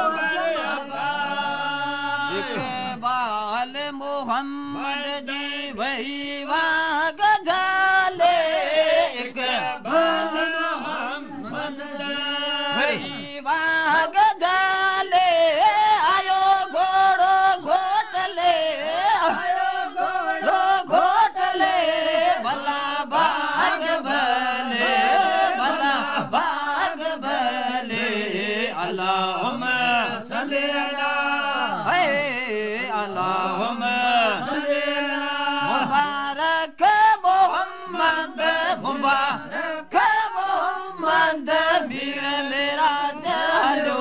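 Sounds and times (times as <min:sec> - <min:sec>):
person singing chant-like melody: 0:00.0 - 0:44.0.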